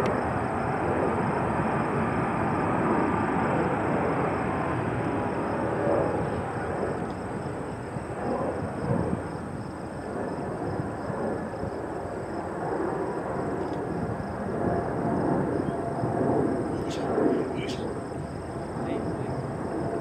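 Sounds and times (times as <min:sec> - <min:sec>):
jet engine drone: 0:00.0 - 0:20.0.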